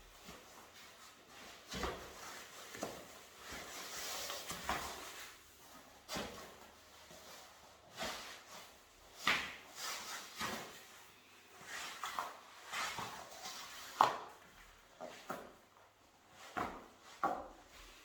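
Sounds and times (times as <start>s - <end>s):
rubbing and rustling of neoprene: 0.0s - 18.0s.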